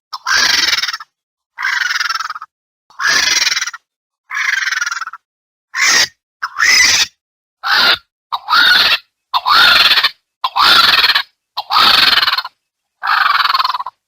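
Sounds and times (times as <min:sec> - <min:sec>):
vulture rasping calls: 0:00.2 - 0:05.2, 0:05.8 - 0:14.0.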